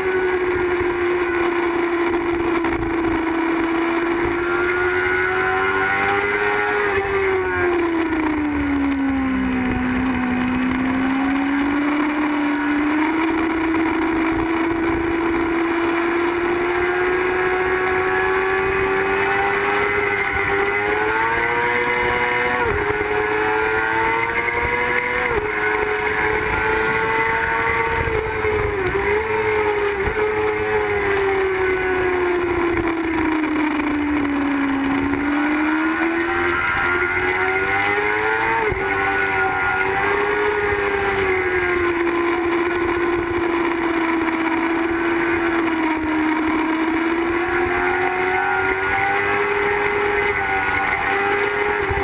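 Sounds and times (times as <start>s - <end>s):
motorcycle engine running hard: 0.0s - 52.0s.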